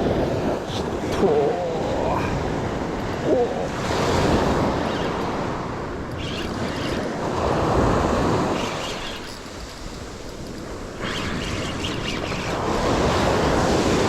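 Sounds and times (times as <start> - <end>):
surf waves washing onto beach: 0.0 - 6.0, 6.6 - 14.0.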